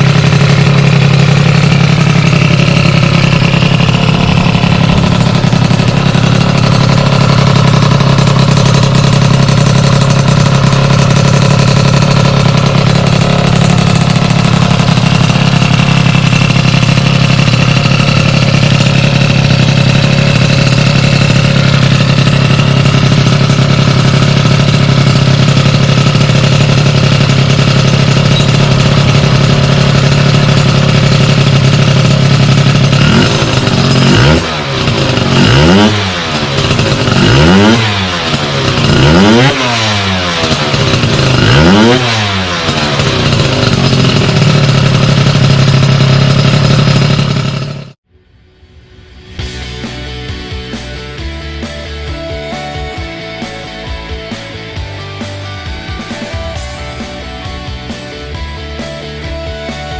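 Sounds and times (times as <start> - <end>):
scooter engine running loudly: 0.0 - 48.1, 49.2 - 59.9.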